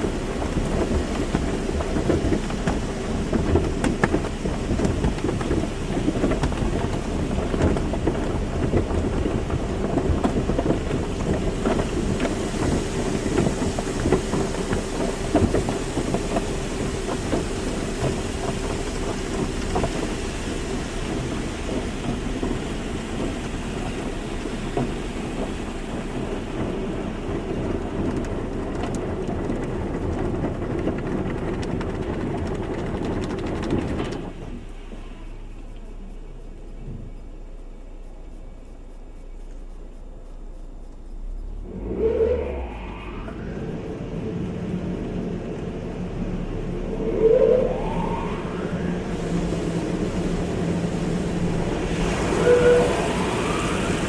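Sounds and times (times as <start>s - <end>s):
water spraying on car body: 0.0s - 38.0s, 48.6s - 54.0s.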